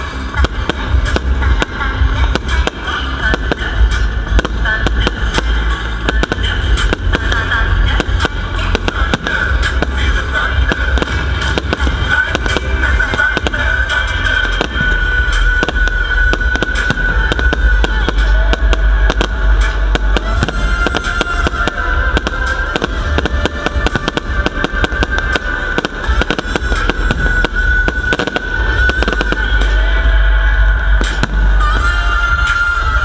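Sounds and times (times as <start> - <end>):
deep rumble: 0.0 - 33.0
fireworks bangs and crackles: 0.0 - 33.0
music: 0.0 - 33.0.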